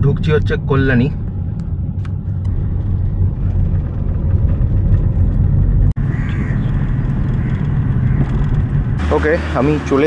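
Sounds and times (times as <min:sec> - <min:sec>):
car cabin engine and road rumble: 0:00.0 - 0:10.0.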